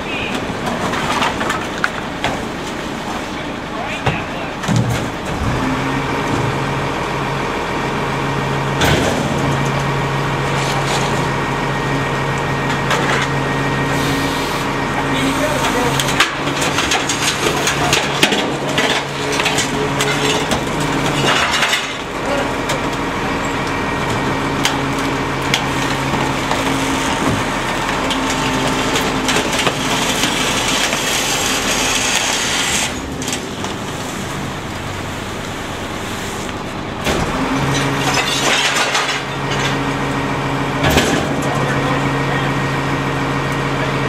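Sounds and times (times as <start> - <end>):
trash crushing and crunching: 0.0 - 43.8
garbage truck diesel engine: 0.0 - 44.0.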